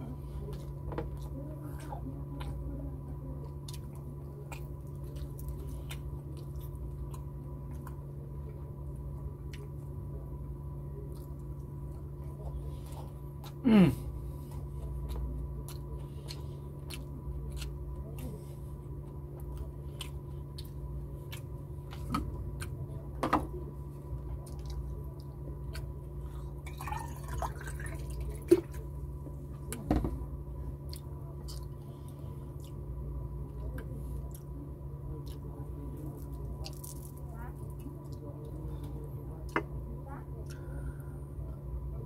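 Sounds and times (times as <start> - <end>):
man chewing food: 0.0 - 41.8.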